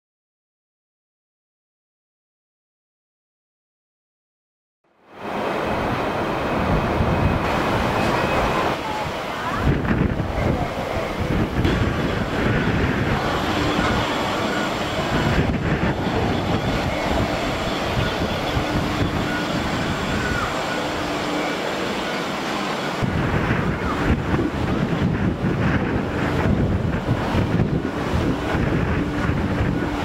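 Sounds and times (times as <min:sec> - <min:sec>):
faint high whine: 0:04.9 - 0:30.0
distant machinery drone: 0:05.0 - 0:30.0
wind buffeting microphone: 0:05.2 - 0:30.0.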